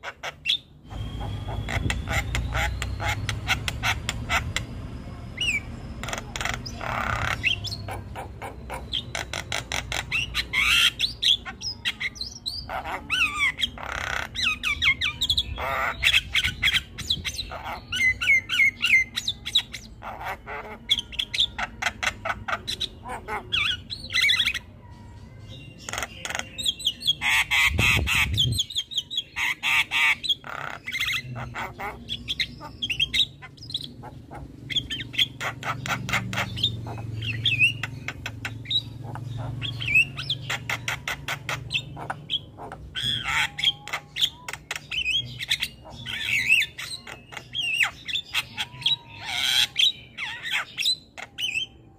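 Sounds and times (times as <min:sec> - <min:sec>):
myna chattering and squawking: 0:00.0 - 0:24.9, 0:25.6 - 0:51.9.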